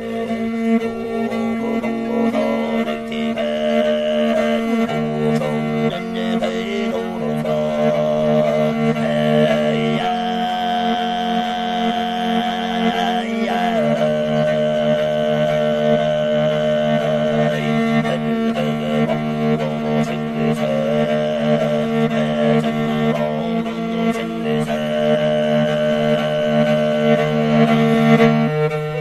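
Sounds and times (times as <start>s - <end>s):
bowed fiddle melody: 0.0s - 29.0s
throat singing: 0.0s - 29.0s.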